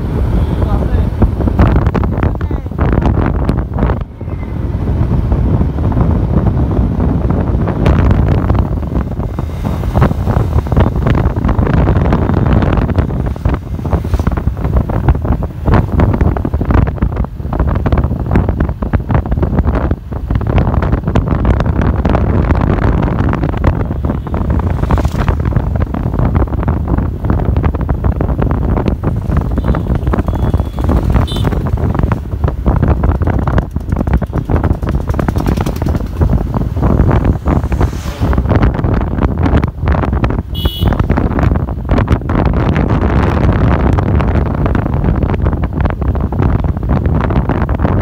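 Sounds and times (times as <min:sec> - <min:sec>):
motorcycle road and engine noise: 0:00.0 - 0:48.0
wind buffeting microphone: 0:00.0 - 0:48.0.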